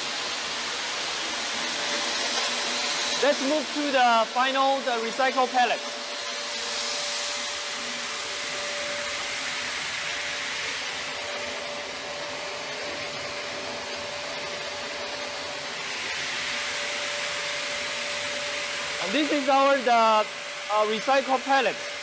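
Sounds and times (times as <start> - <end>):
blower air rushing: 0.0 - 22.0.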